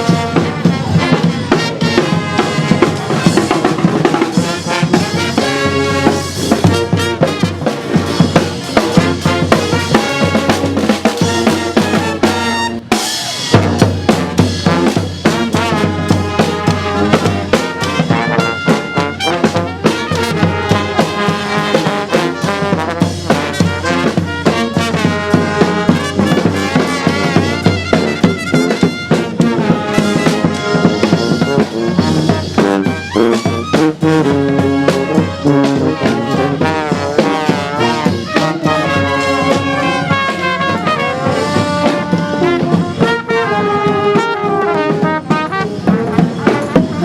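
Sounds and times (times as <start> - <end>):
bass drum and snare beat: 0.0 - 47.0
brass horns playing: 0.0 - 47.0.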